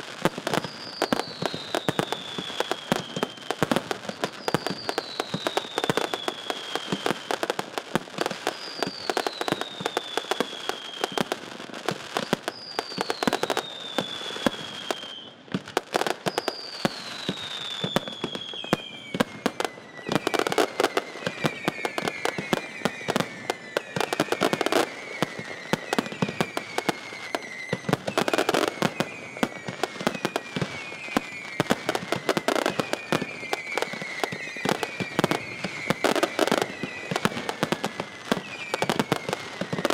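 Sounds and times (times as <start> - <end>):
fireworks bangs and crackling: 0.0 - 39.9
whistling fireworks: 0.0 - 39.9.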